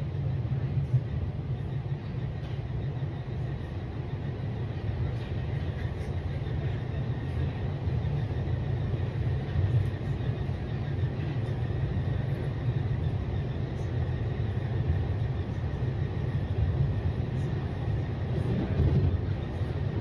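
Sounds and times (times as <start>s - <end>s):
train rumbling inside car: 0.0s - 20.0s.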